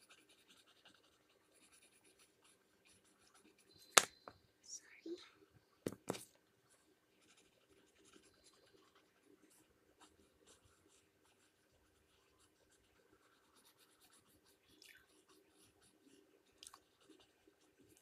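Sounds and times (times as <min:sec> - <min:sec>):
pencil scratching on paper: 0:00.0 - 0:03.7, 0:07.2 - 0:18.0.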